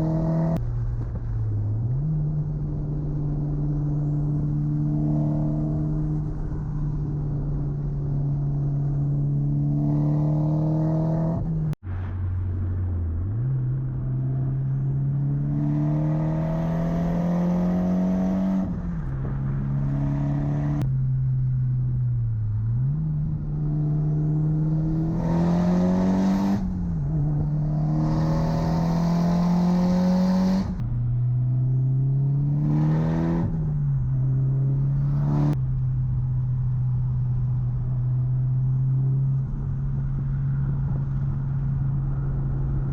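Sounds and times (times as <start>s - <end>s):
car engine accelerating hard: 0.0s - 20.9s, 21.6s - 42.9s.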